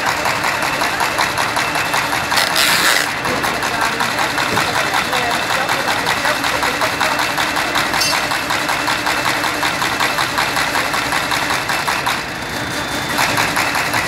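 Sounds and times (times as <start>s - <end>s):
paper folding machine clattering: 0.0s - 14.0s.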